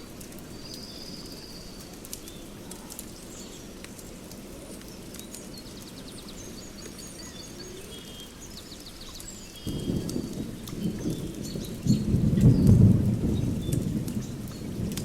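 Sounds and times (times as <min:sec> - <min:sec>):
faint crackles: 0:00.0 - 0:15.0
small birds chirping: 0:00.0 - 0:15.0.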